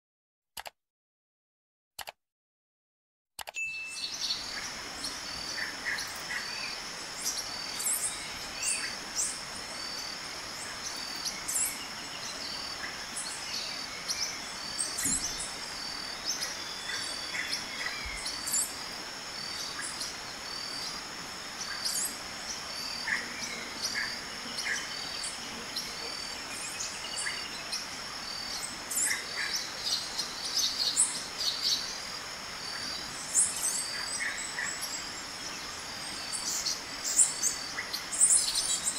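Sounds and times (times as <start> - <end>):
insect trill: 3.6 - 38.9.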